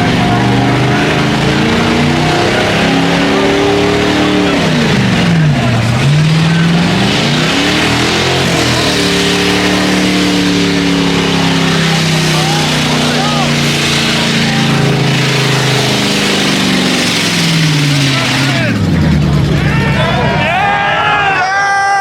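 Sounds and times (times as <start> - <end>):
car engine at high revs: 0.0 - 20.6.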